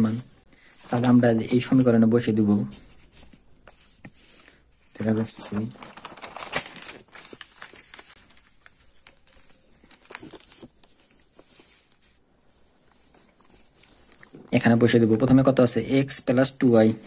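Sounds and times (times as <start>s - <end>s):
paper rustling and crinkling: 0.0s - 14.7s.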